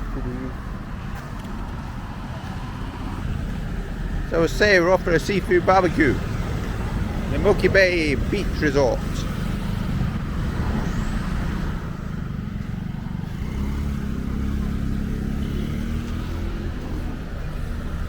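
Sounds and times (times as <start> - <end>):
engine hum: 0.0 - 18.0
vehicle engine rumble: 0.0 - 18.0.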